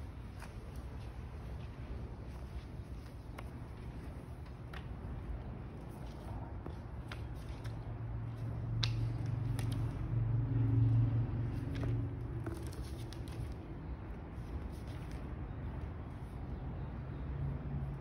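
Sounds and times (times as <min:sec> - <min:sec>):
low hum: 0:00.0 - 0:15.5.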